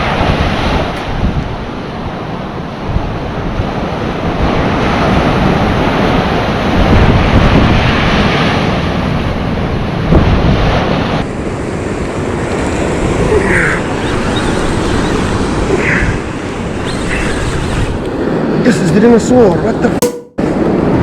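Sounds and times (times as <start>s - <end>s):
wind rumbling on microphone: 0.0s - 18.7s
ocean surf washing on shore: 0.0s - 19.1s.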